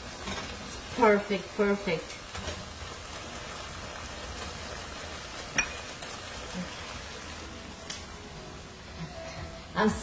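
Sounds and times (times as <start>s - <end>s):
shrimp sizzling in a pan: 0.0s - 9.9s.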